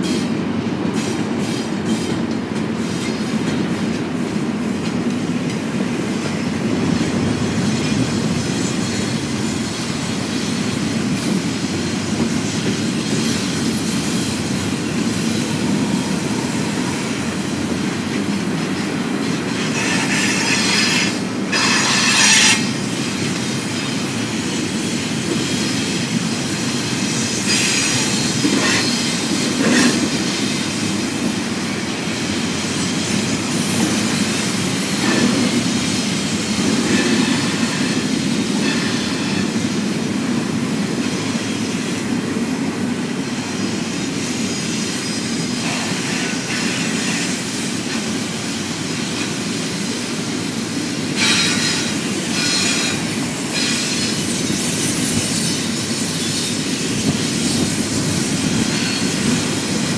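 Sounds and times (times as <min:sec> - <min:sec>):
freight train rumbling over rails: 0:00.0 - 0:59.9.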